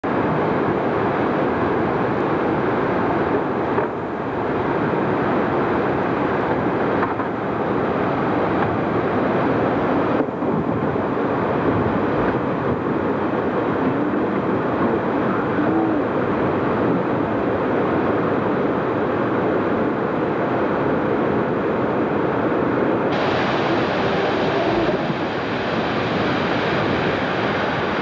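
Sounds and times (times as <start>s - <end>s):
waterfall roaring: 0.1s - 28.0s.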